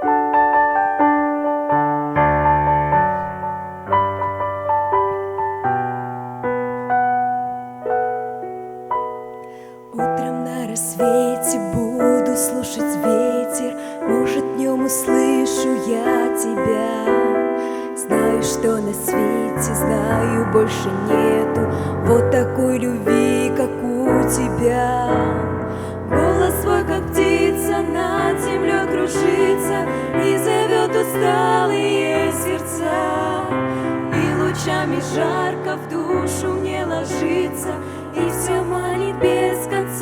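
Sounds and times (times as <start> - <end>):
slow gentle piano melody: 0.0 - 40.0.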